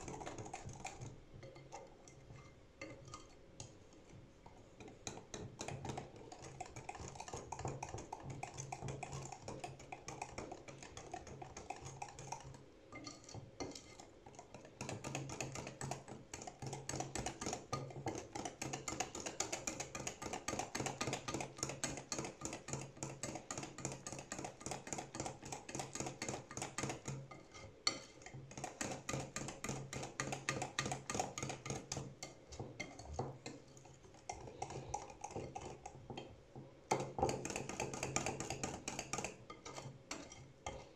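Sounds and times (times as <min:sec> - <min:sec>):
utensil clicking against bowl: 0:04.8 - 0:27.3, 0:27.9 - 0:36.3, 0:36.9 - 0:40.9.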